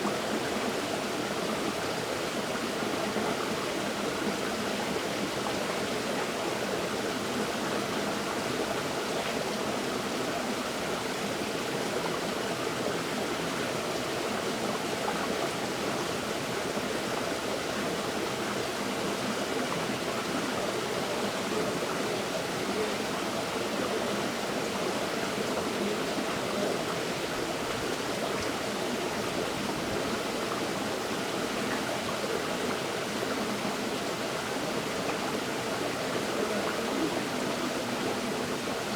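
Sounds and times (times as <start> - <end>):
river flowing over rocks: 0.1 - 38.9.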